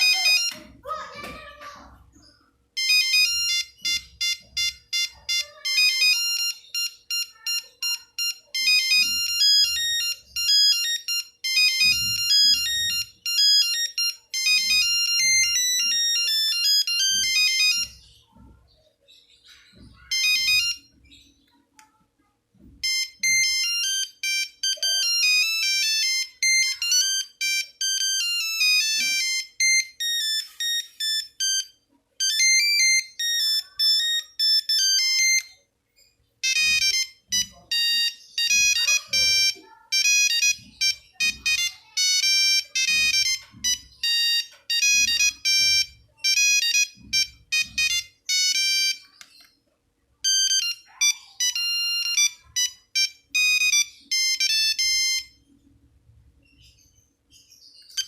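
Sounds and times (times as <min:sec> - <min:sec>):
monophonic ringtone melodies: 0:00.0 - 0:21.9, 0:22.6 - 0:58.0.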